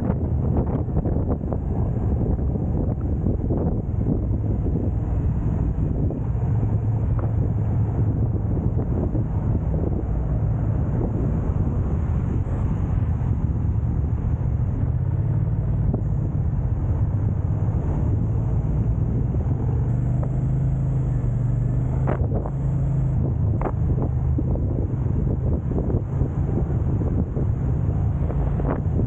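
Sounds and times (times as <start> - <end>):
car engine and tyre rumble: 0.0 - 29.0
wind buffeting: 0.0 - 29.0.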